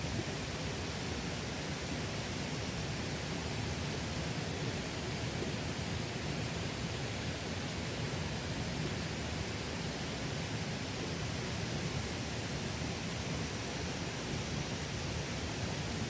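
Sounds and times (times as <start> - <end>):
stream water rushing over rocks: 0.0 - 16.0.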